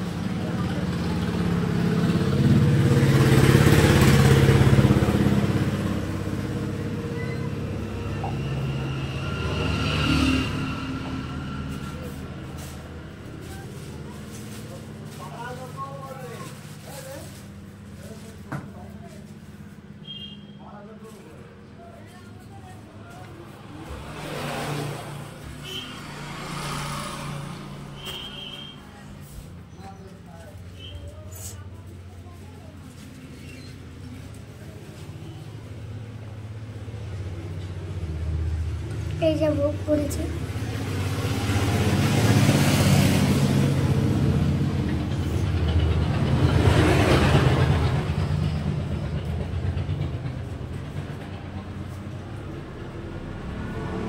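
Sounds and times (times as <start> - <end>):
motor vehicle engine running: 0.0 - 20.0, 20.9 - 54.0.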